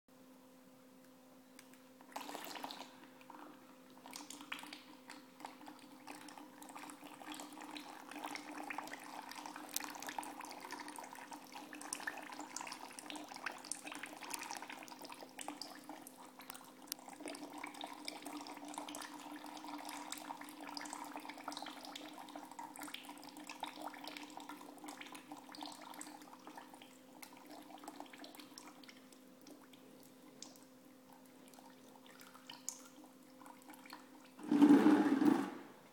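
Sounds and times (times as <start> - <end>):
oil pouring and dripping: 2.1 - 35.4.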